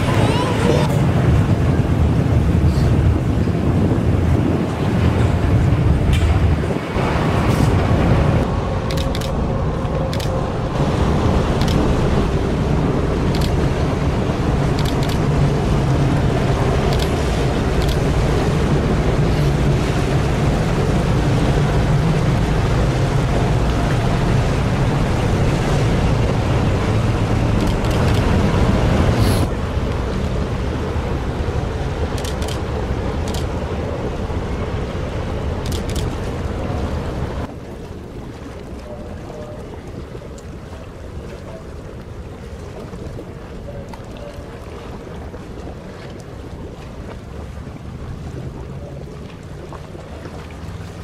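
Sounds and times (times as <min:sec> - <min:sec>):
boat engines droning: 0:00.0 - 0:51.0
water rushing: 0:00.0 - 0:51.0
wind buffeting microphone: 0:00.0 - 0:51.0.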